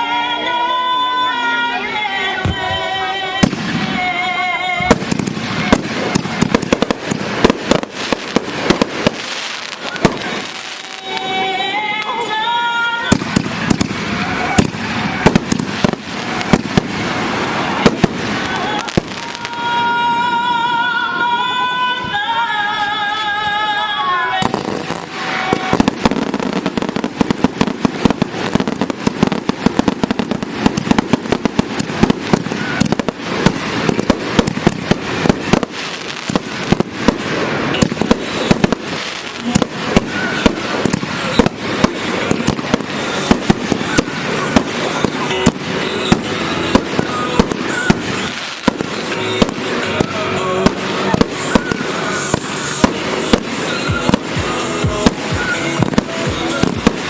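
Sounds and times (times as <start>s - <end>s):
fireworks bursting and crackling: 0.0s - 57.0s
music playing: 0.0s - 57.0s.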